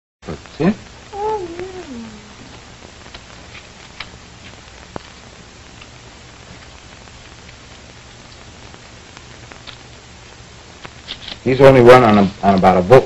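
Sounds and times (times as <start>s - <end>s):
crackles and clicks: 0.2s - 13.0s
film soundtrack hiss and hum: 0.2s - 13.0s.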